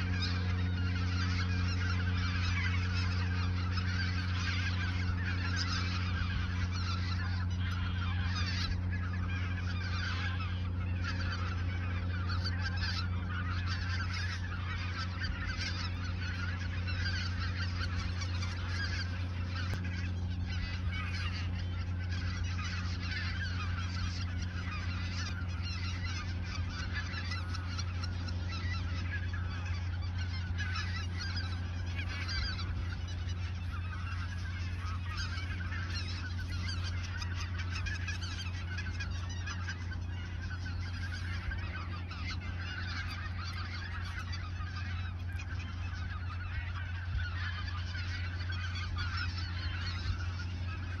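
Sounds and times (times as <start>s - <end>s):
geese honking: 0.0s - 51.0s
steady low hum: 0.0s - 51.0s.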